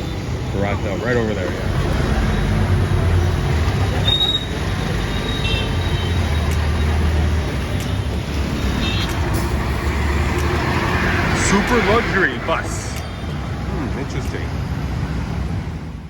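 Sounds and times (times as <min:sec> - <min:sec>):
bus engine rumbling: 0:00.0 - 0:16.0
busy road traffic: 0:00.0 - 0:16.0.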